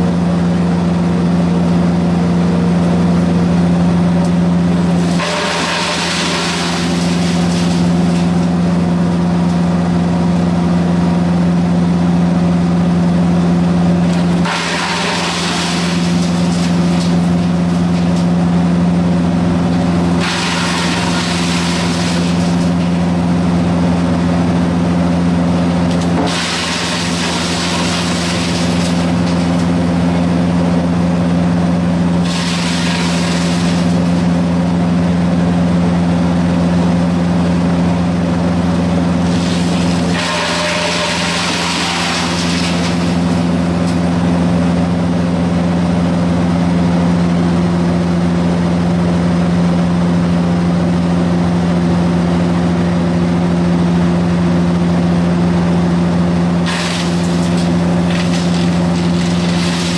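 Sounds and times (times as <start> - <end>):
wood chipper diesel engine: 0.0 - 59.9.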